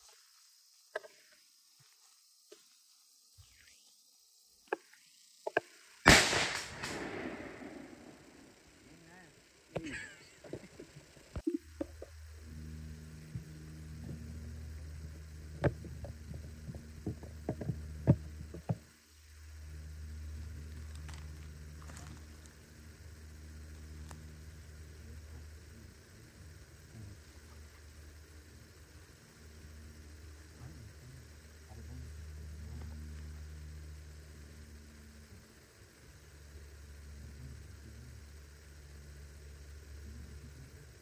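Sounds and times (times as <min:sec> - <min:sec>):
faint steady hiss: 0:00.0 - 0:41.0
steady low hum: 0:00.0 - 0:41.0.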